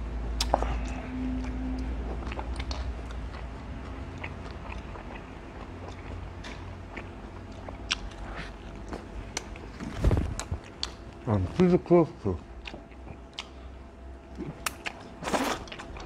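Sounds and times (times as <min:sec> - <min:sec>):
steady low hum: 0:00.0 - 0:16.0
chewing with wet mouth sounds: 0:00.2 - 0:16.0.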